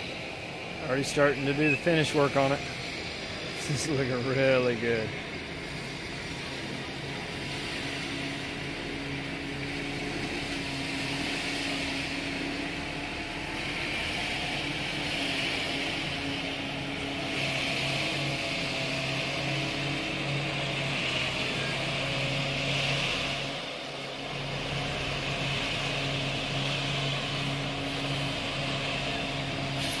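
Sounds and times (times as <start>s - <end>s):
diesel engine running: 0.0s - 30.0s
hiss: 1.5s - 30.0s.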